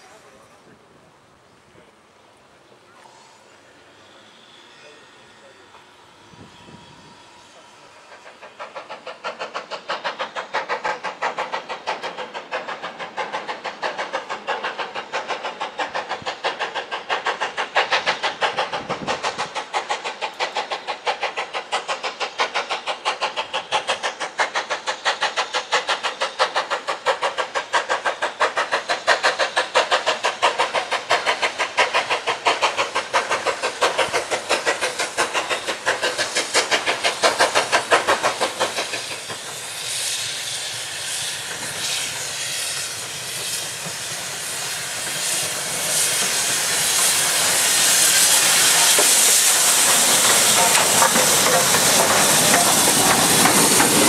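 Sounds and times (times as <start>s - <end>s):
hissing steam: 0.0s - 54.0s
steam locomotive exhaust chuffs: 1.8s - 54.0s.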